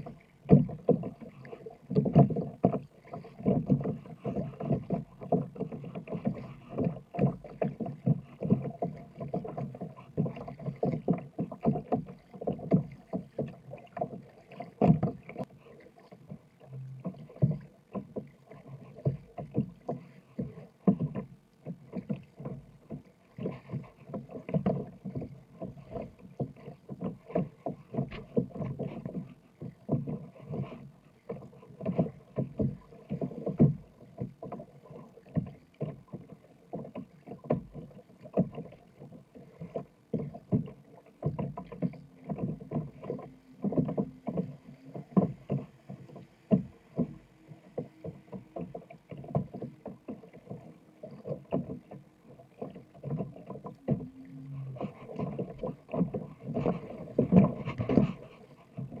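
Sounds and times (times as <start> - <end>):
kayak paddle splashing: 0.0 - 59.0
water slapping against hull: 0.0 - 59.0.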